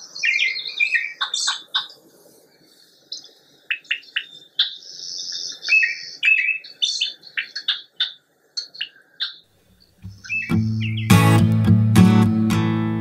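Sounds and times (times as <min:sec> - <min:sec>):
birdsong chirps and whistles: 0:00.0 - 0:11.3.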